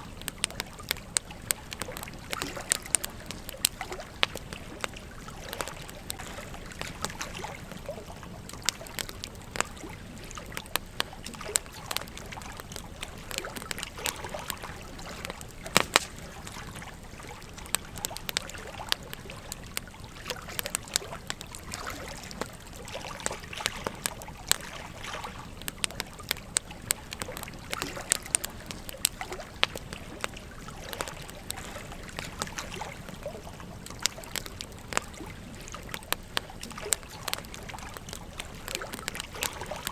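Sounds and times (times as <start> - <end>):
campfire crackling and popping: 0.0 - 39.9
gentle stream murmuring: 0.0 - 39.9.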